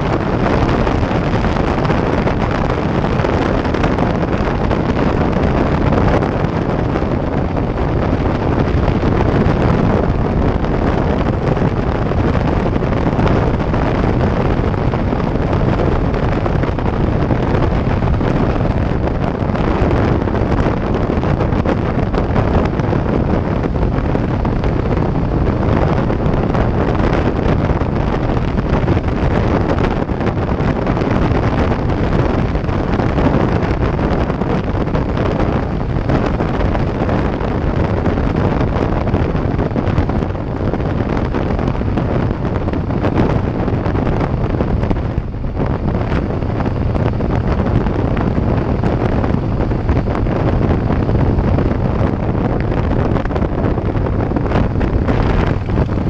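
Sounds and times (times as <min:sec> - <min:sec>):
motorcycle engine: 0:00.0 - 0:56.0
road noise: 0:00.0 - 0:56.0
wind buffeting microphone: 0:00.0 - 0:56.0.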